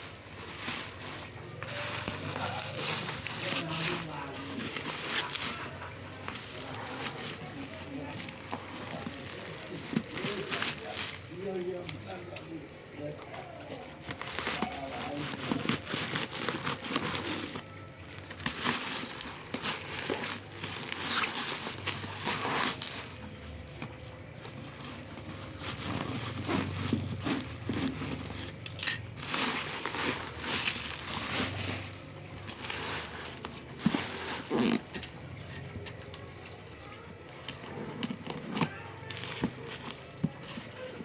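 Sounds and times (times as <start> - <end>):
packaging crinkling and rustling: 0.0 - 41.0.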